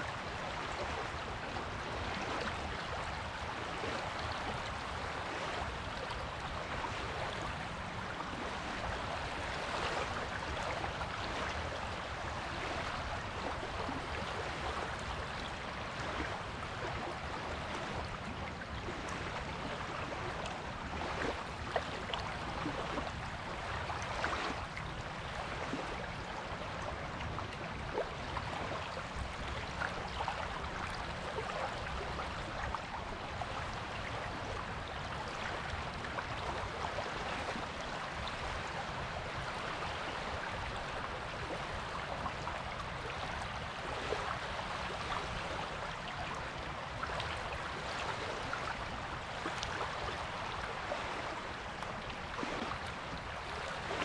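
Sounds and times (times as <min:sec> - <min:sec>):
water washing on a beach: 0:00.0 - 0:54.0.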